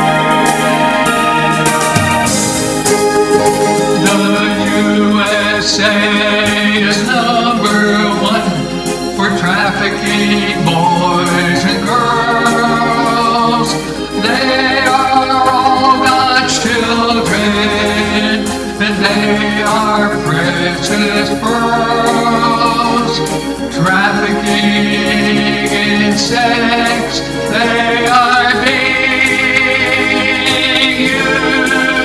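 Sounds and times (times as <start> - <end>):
electronic keyboard chords: 0.0 - 32.0
man singing gospel-style song: 3.4 - 32.0.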